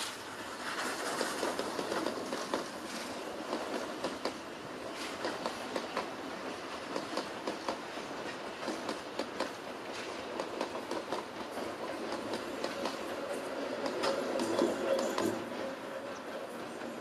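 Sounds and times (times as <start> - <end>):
train running noise: 0.0 - 17.0
train wheels clicking over rail joints: 0.0 - 17.0.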